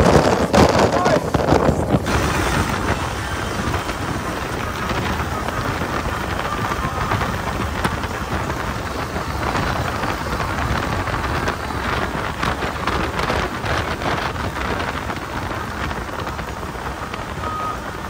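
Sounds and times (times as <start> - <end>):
water rushing along hull: 0.0 - 18.0
wind rushing over microphone: 0.0 - 18.0.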